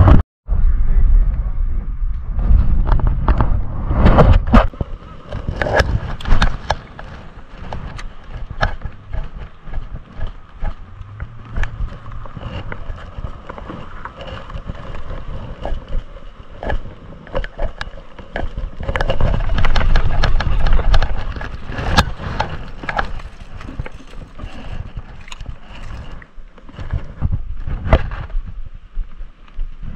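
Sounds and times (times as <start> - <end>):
low rumble on microphone: 0.0 - 29.9.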